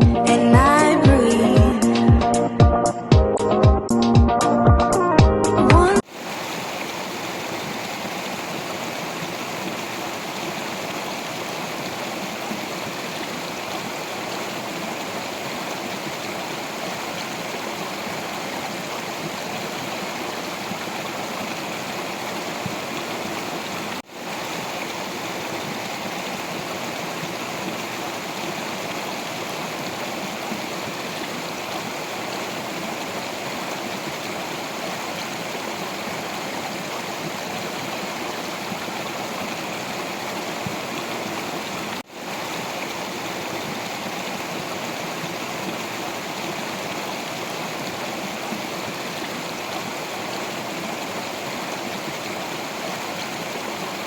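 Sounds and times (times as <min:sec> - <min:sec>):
stream flowing over rocks: 0:06.0 - 0:54.0.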